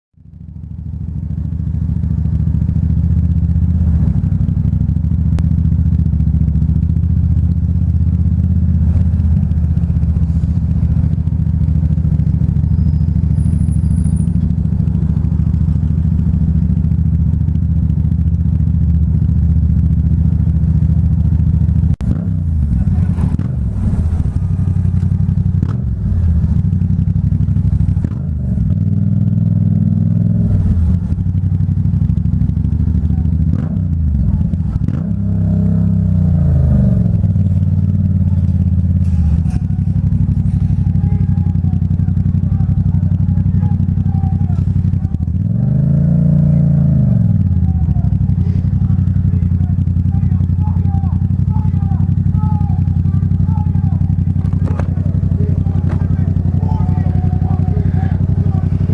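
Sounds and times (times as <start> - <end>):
motorcycle engine throbbing: 0.2 - 58.9.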